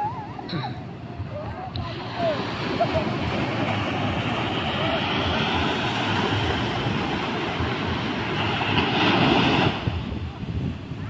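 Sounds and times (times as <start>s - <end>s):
ocean surf rushing: 0.0s - 11.0s
wave breaking on shore: 1.2s - 11.0s.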